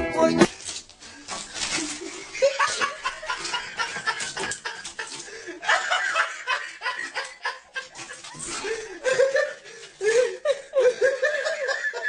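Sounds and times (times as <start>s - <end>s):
person laughing: 1.8s - 12.0s.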